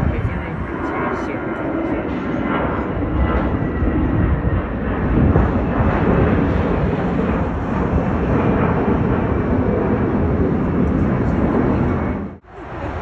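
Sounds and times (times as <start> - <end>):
jet airliner engine noise: 0.0 - 13.0.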